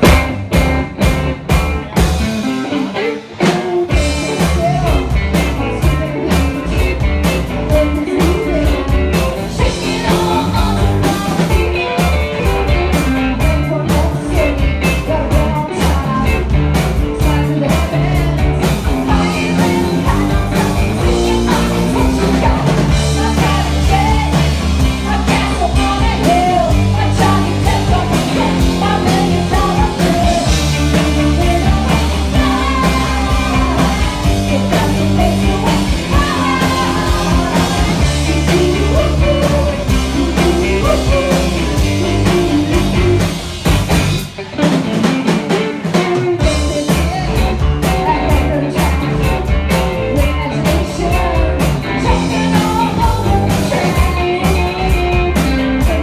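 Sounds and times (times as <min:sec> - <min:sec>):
bass guitar: 0:00.0 - 0:56.0
electric guitar: 0:00.0 - 0:56.0
woman singing into a microphone: 0:03.0 - 0:43.4, 0:46.0 - 0:56.0.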